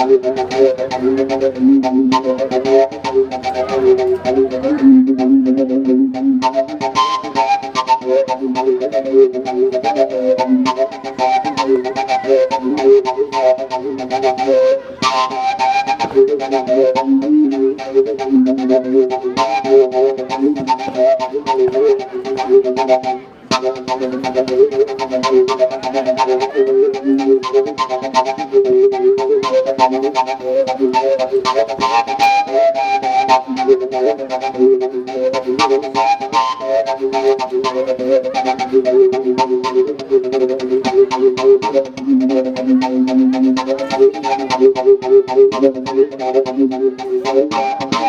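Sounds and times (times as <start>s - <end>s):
flute melody: 0.0s - 48.0s
rhythmic clicking beat: 0.0s - 48.0s.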